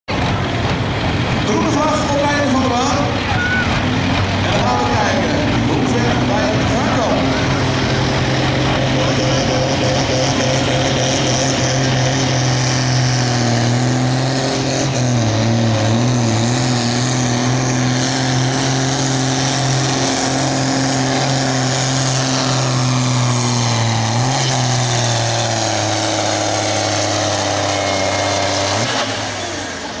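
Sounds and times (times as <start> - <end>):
diesel tractor engine at full throttle: 0.1 - 30.0.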